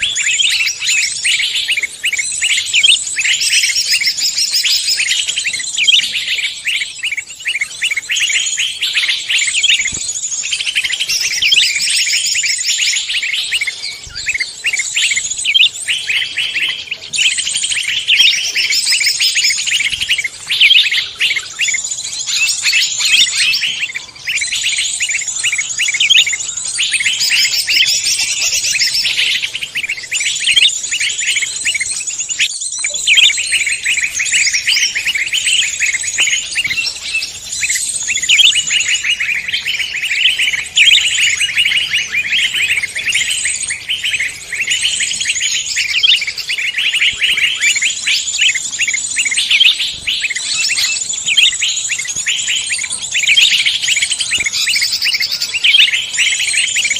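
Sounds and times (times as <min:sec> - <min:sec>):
songbirds chirping and trilling: 0:00.0 - 0:56.9.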